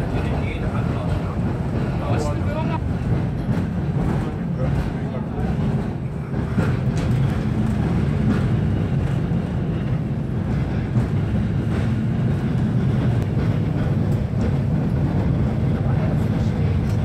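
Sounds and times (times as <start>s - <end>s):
railcar rumbling on track: 0.0s - 17.0s.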